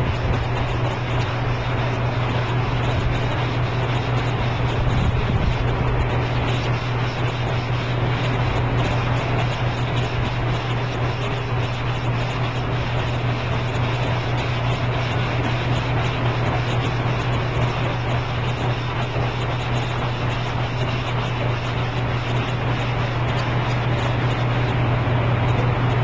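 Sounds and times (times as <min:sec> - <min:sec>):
constant rushing noise: 0:00.0 - 0:26.0
steady low hum: 0:00.0 - 0:26.0.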